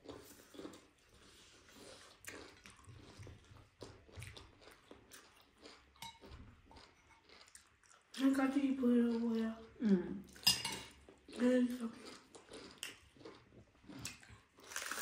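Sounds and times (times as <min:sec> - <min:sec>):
people chewing: 0:00.0 - 0:15.0.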